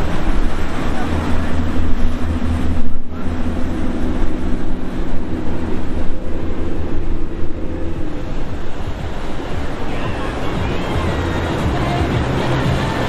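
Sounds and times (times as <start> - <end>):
powerboat engine droning: 0.0 - 13.0
water rushing hiss: 0.0 - 13.0.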